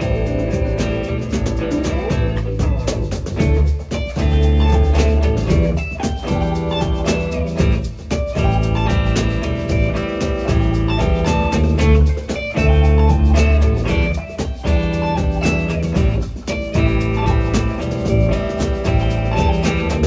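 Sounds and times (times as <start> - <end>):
drum kit beat: 0.0 - 20.0.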